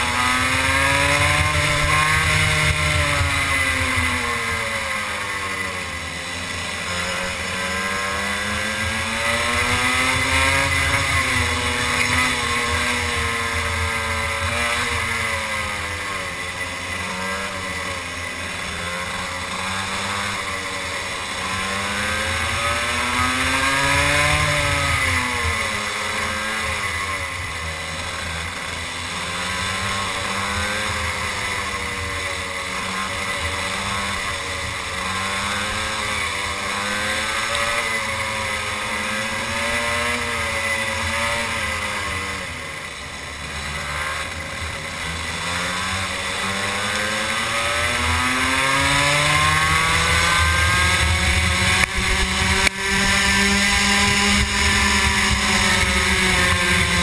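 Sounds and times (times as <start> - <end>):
two-stroke kart engine racing: 0.0 - 57.0.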